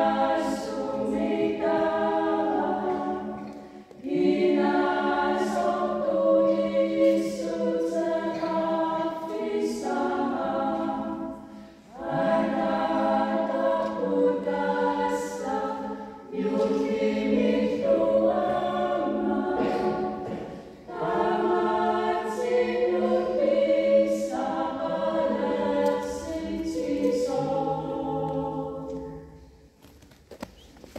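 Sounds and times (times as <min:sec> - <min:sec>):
mixed choir singing a cappella: 0:00.0 - 0:29.4.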